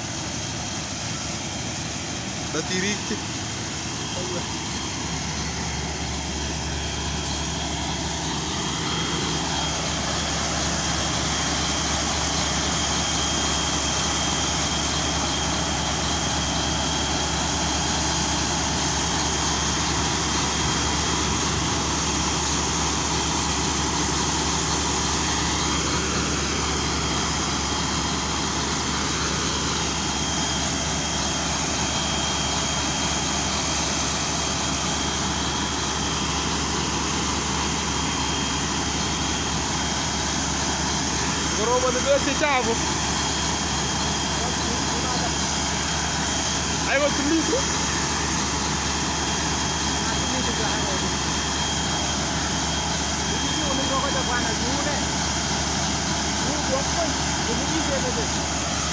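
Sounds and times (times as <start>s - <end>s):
deep engine drone: 0.0s - 58.9s.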